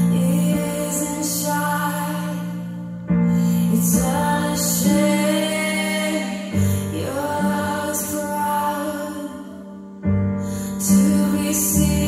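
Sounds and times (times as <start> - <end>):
slow song with soft female voice: 0.0 - 12.0.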